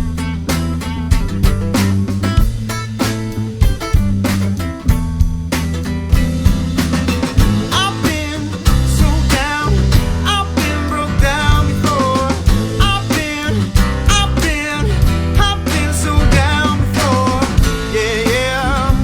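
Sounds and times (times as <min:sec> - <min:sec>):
bass and guitar: 0:00.0 - 0:19.0
drum kit beat: 0:00.0 - 0:19.0
sliding melodic guitar line: 0:00.0 - 0:19.0.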